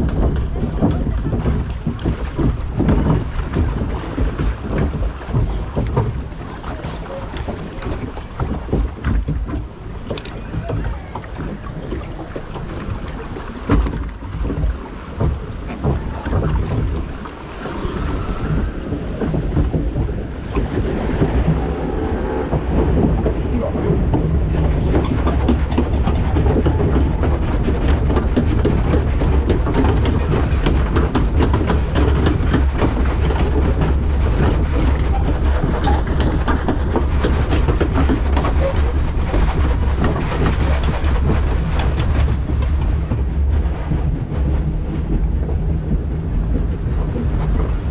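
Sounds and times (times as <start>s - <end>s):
rumble with rapid rattling: 0.0s - 47.9s
rushing water: 0.0s - 47.9s
wind on microphone: 0.0s - 47.9s.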